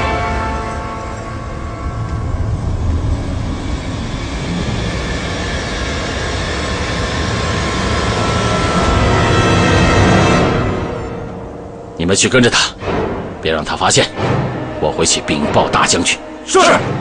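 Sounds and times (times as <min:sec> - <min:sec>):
tense film score drone: 0:00.0 - 0:17.0.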